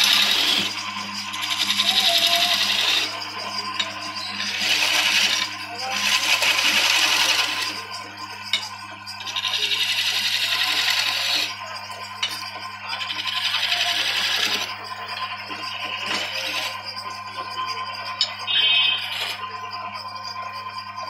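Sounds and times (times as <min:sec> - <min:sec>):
lathe motor hum: 0:00.0 - 0:21.0.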